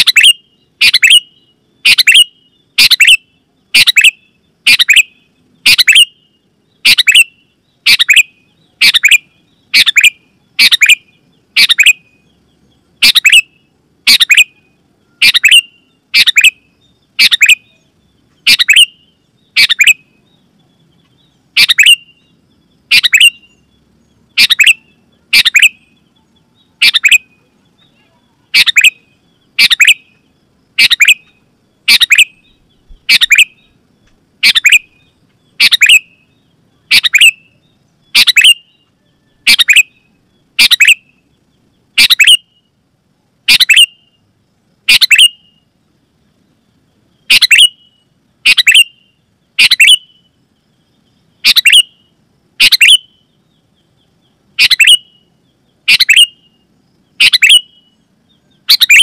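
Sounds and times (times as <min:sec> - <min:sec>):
bird chirping sharply: 0:00.0 - 0:12.4, 0:13.0 - 0:20.3, 0:20.9 - 0:33.8, 0:34.4 - 0:41.3, 0:42.0 - 0:42.7, 0:44.9 - 0:45.6, 0:47.2 - 0:50.3, 0:51.4 - 0:53.2, 0:54.6 - 0:55.3, 0:55.9 - 0:59.0.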